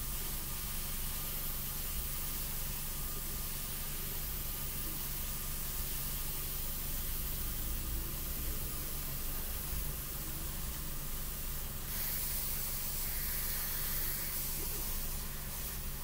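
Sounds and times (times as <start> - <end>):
airbrush spraying hiss: 0.0 - 16.0.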